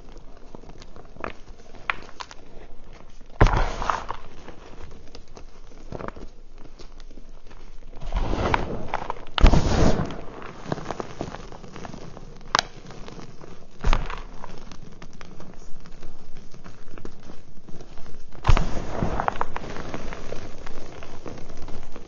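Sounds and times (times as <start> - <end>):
chalk crunching and crackling: 0.0 - 22.0.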